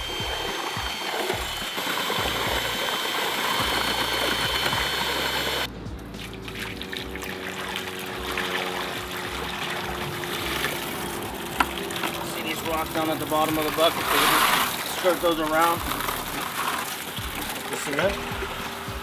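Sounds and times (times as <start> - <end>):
drill mixer churning concrete: 0.0 - 5.7, 6.5 - 19.0
wet concrete pouring: 0.0 - 19.0.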